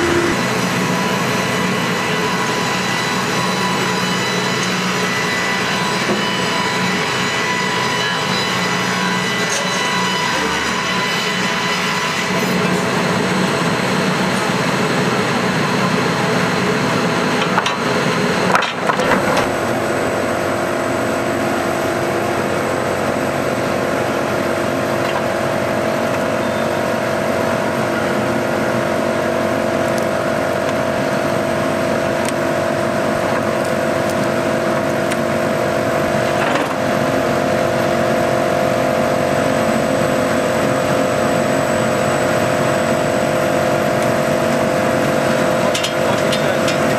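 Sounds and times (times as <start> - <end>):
sawmill machinery hum: 0.0 - 46.9.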